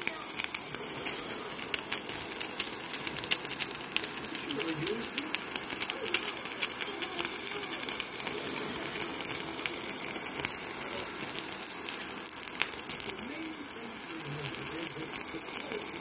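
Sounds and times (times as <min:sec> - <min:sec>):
kitchen torch hissing: 0:00.0 - 0:16.0
small crackles: 0:00.0 - 0:16.0.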